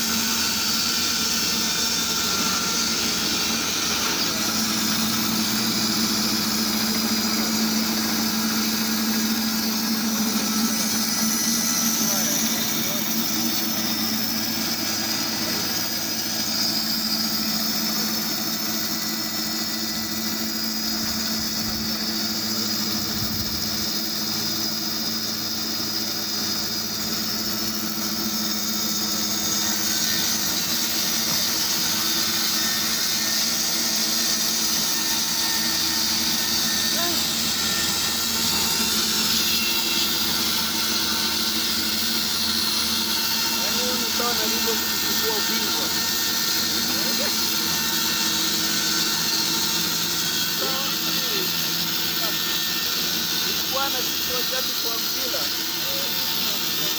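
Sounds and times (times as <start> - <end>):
band sawmill running: 0.0 - 56.9.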